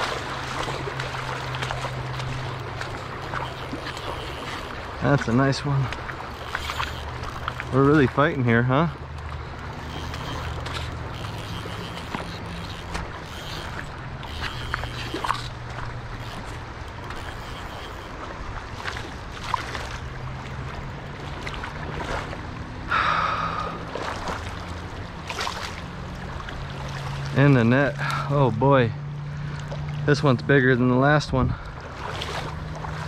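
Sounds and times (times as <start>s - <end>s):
river current rushing: 0.0s - 33.0s
small water splashes: 0.0s - 33.0s.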